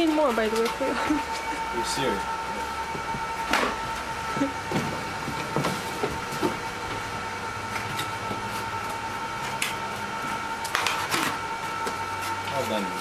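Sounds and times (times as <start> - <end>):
faint electrical whine and hum: 0.0 - 13.0.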